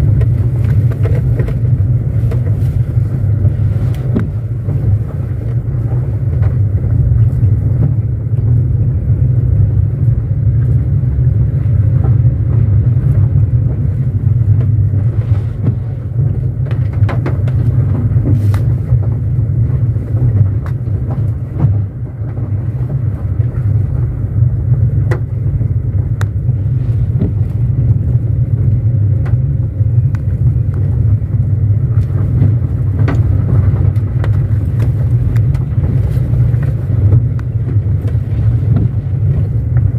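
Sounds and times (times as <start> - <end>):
gravel ticks and knocks: 0.0 - 8.7, 11.9 - 25.4, 26.0 - 39.9
car tyres rumbling on gravel: 0.0 - 39.9.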